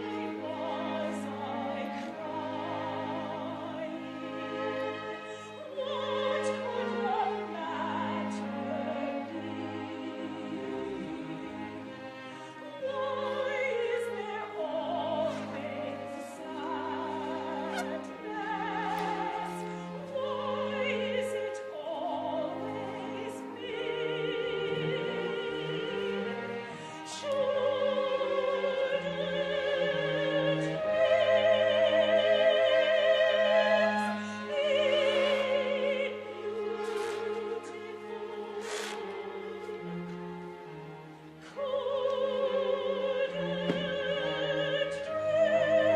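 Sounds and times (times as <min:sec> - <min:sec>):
instrumental accompaniment: 0:00.0 - 0:45.9.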